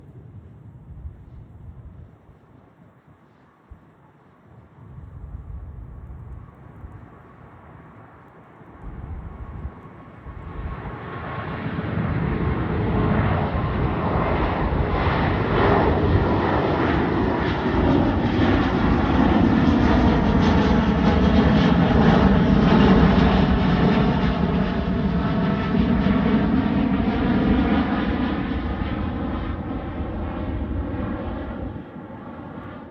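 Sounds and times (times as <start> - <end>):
jet engines passing: 4.8 - 32.9.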